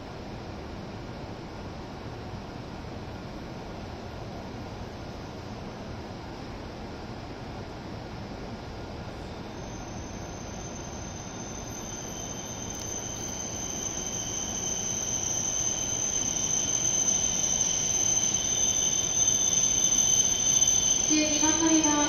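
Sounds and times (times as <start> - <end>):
train rolling rumble: 0.0 - 22.0
train squealing whine: 0.7 - 22.0.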